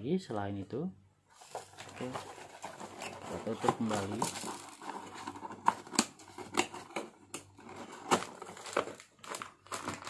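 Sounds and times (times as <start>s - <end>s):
cardboard flaps tapping and scraping: 1.5s - 10.0s.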